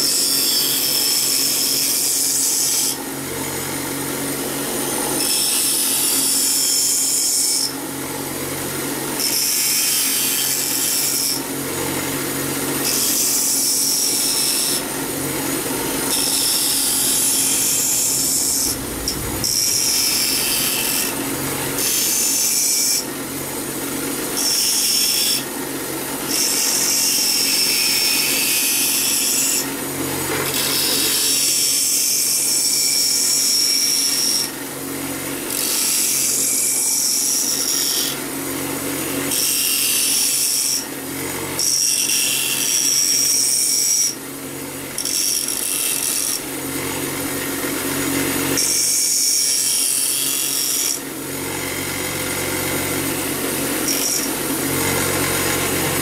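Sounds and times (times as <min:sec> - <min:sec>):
bench grinder motor humming: 0:00.0 - 0:56.0.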